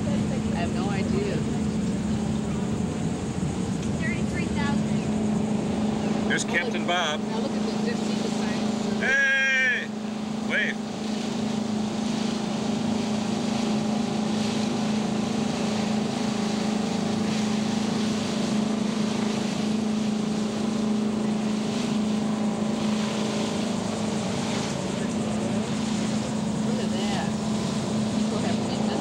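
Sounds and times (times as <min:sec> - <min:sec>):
boat engine humming: 0:00.0 - 0:29.0
wind on microphone: 0:00.0 - 0:29.0.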